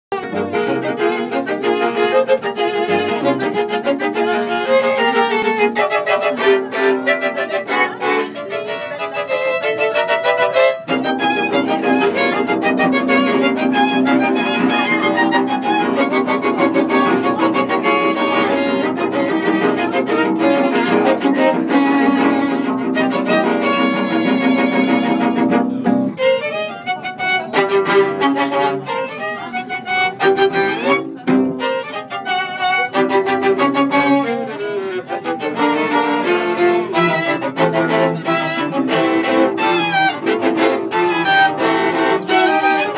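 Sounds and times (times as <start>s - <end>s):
string quartet playing: 0.1s - 42.9s.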